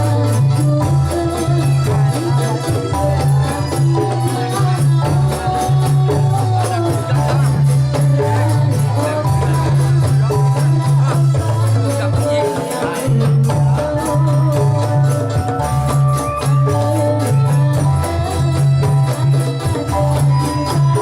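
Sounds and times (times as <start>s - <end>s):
held melody: 0.0s - 21.0s
jingling frame drum and tambourine: 0.0s - 21.0s.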